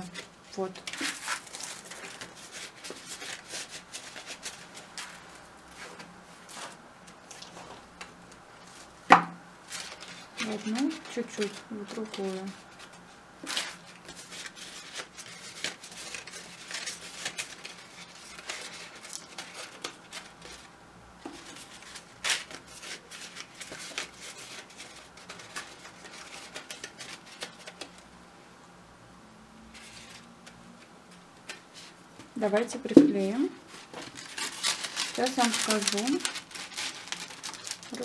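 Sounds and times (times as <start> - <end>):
crepe paper crinkling: 0.0 - 8.9, 9.6 - 28.1, 29.7 - 38.0.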